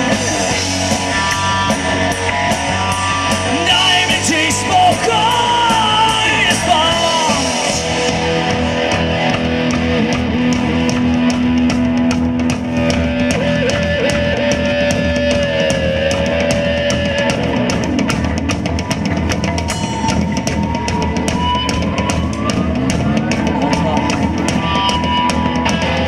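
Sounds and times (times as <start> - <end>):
hard rock band playing live: 0.0 - 26.0
lead guitar bending held notes: 0.0 - 26.0.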